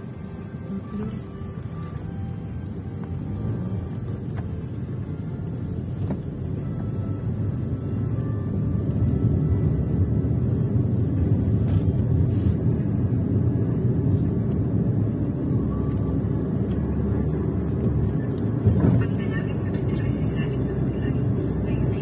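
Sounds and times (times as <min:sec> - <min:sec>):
tyres on road: 0:00.0 - 0:22.0
vehicle engine rumble: 0:00.0 - 0:22.0.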